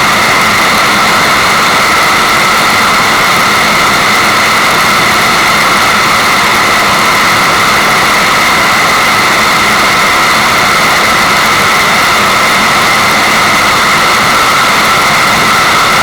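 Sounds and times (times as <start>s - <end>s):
rushing water white noise: 0.0s - 16.0s.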